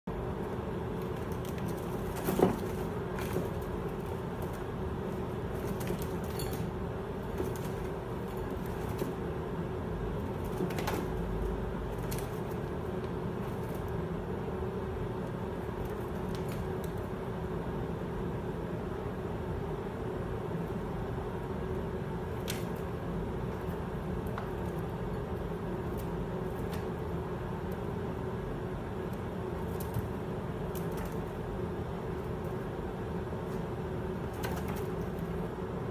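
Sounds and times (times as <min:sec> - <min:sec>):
background hum: 0:00.1 - 0:35.9
guinea pigs scrabbling in bedding: 0:00.1 - 0:35.9.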